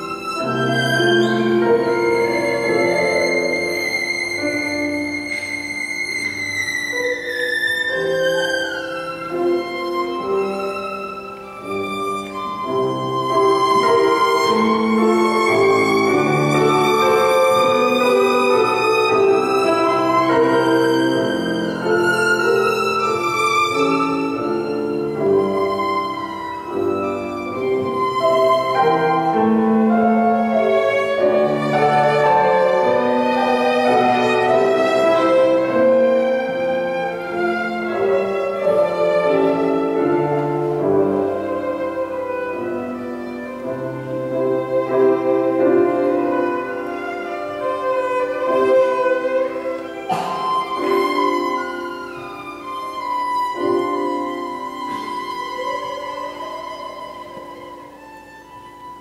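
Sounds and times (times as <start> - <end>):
piano accompaniment: 0.0 - 59.0
violin melody: 0.0 - 59.0.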